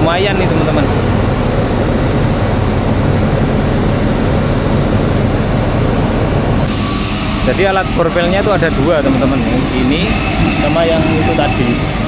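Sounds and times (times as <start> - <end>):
construction machinery engine rumble: 0.0 - 12.0.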